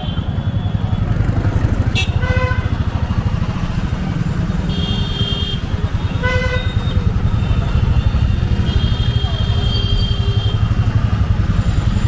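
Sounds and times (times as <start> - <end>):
motorcycle engines rumbling: 0.0 - 12.0
street traffic: 0.0 - 12.0.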